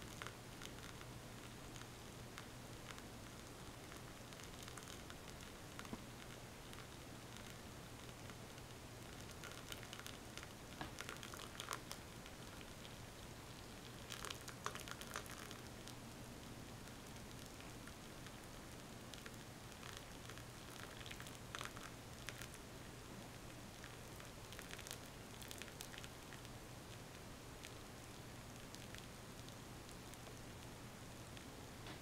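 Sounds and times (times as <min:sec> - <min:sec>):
water trickling onto tea leaves: 0:00.0 - 0:30.7
tea leaves crackling and popping: 0:00.0 - 0:32.0.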